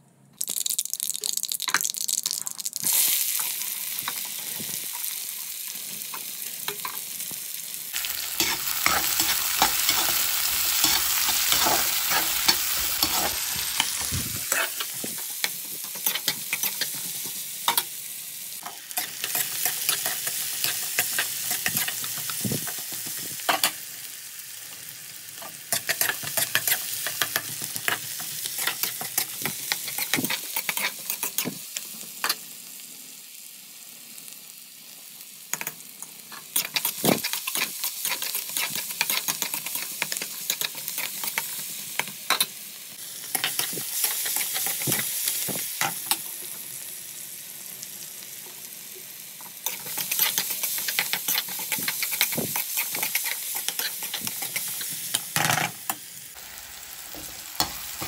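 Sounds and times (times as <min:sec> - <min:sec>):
food sizzling in a pan: 0:00.5 - 0:58.0.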